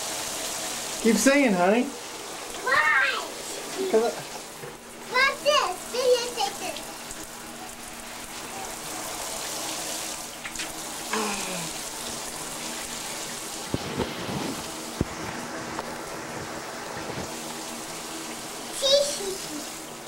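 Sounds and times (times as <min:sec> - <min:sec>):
shower spray hissing: 0:00.0 - 0:20.0.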